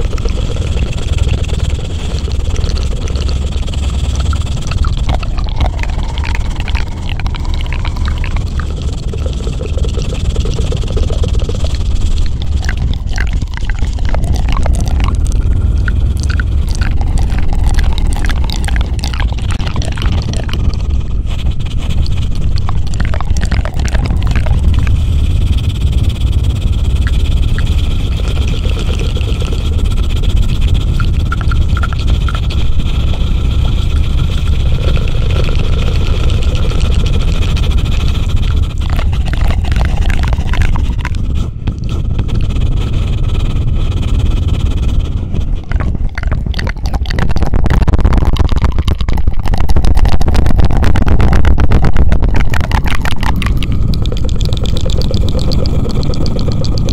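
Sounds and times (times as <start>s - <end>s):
fluttering rumble on microphone: 0.0s - 56.9s.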